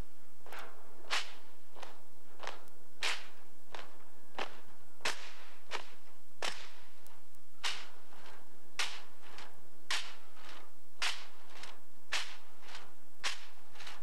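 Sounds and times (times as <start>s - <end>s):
marching heel strikes on pavement: 0.5s - 14.0s.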